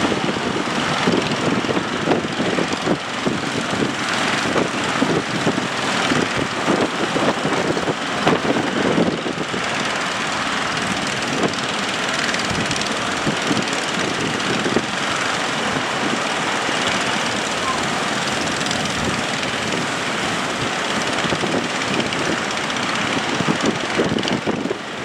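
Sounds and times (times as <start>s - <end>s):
boat engine droning: 0.0s - 25.0s
wind buffeting microphone: 0.0s - 25.0s.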